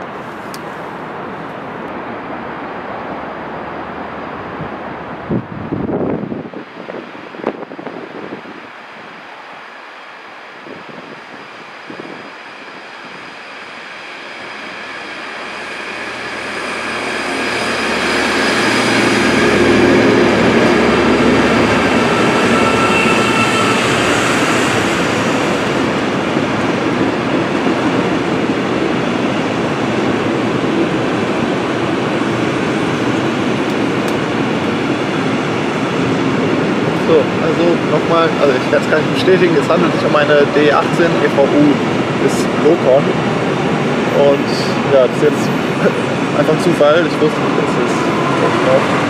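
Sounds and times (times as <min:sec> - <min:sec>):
diesel locomotive engine: 0:00.0 - 0:49.0.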